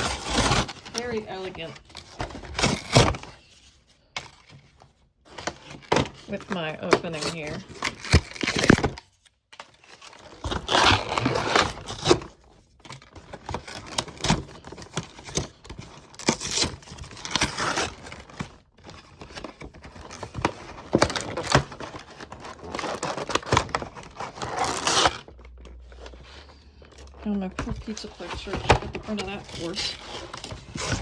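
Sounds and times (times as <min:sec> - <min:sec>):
cardboard tearing and crinkling: 0:00.0 - 0:03.5, 0:05.3 - 0:31.0.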